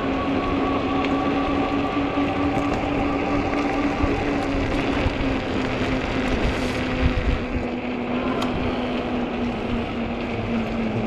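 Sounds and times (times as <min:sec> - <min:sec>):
electric hub motor humming: 0:00.0 - 0:11.0
wind buffeting microphone: 0:00.0 - 0:11.0.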